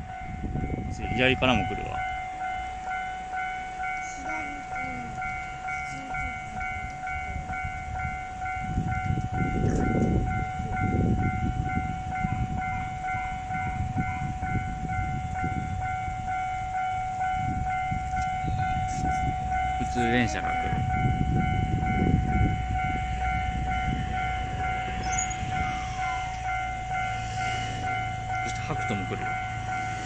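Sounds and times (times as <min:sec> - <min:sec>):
railroad crossing bell ringing: 0:00.0 - 0:30.0
steady tone: 0:00.0 - 0:30.0
train wheels rumbling on rails: 0:00.0 - 0:30.0.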